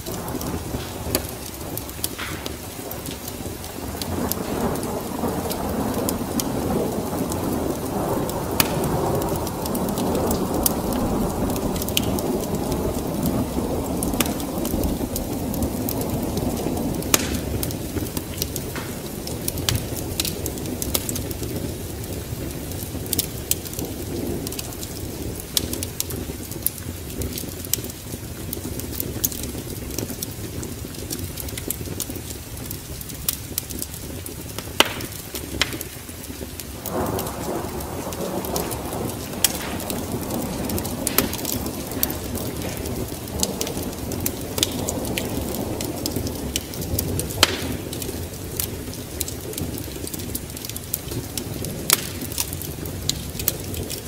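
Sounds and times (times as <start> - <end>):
rolling thunder: 0.0 - 54.0
steady rain: 0.0 - 54.0
wood fire crackling: 0.0 - 54.0.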